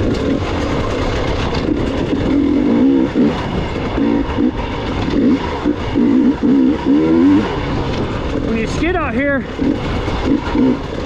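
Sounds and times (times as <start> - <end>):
motorcycle engine revving: 0.0 - 11.0
wind: 0.0 - 11.0.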